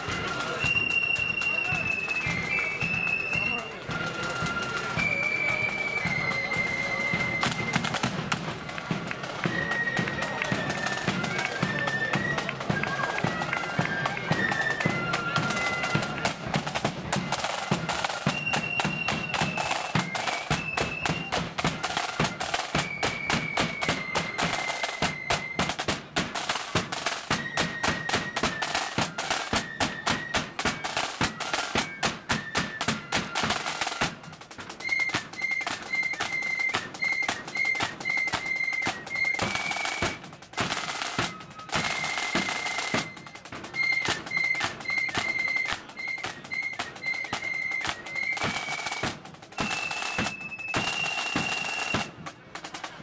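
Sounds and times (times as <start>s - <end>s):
high flute melody: 0.0s - 53.0s
snare drums rattling: 0.0s - 53.0s.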